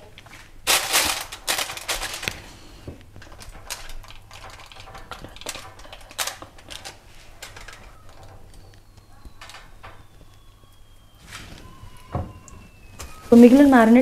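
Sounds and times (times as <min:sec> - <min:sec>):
foil and plastic bag crinkling: 0:00.0 - 0:14.0
meat handled on foil: 0:00.3 - 0:12.1, 0:12.7 - 0:14.0.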